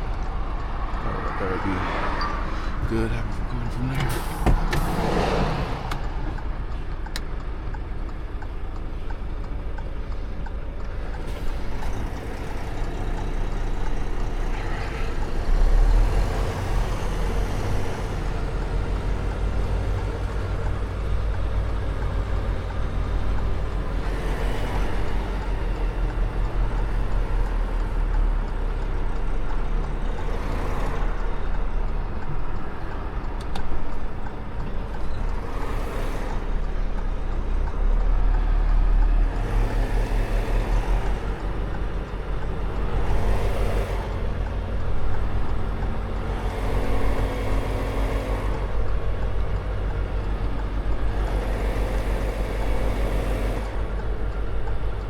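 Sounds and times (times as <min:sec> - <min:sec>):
diesel truck engine rumbling: 0:00.0 - 0:55.0.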